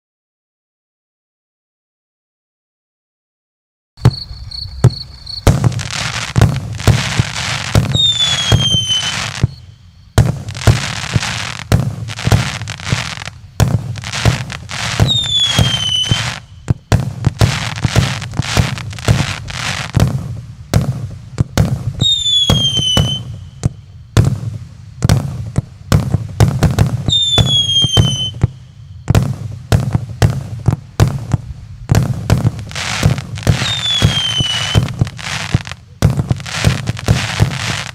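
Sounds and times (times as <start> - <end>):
falling firework whistle: 4.0 - 20.9, 21.6 - 24.5, 26.4 - 31.4, 32.0 - 37.9
firework launch thumps and cracks: 4.0 - 37.9.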